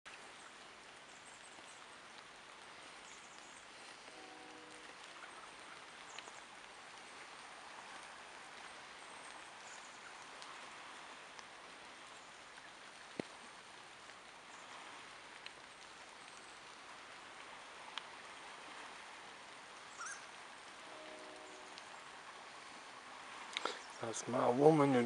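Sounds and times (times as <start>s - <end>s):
faint hiss of water: 0.1s - 25.0s.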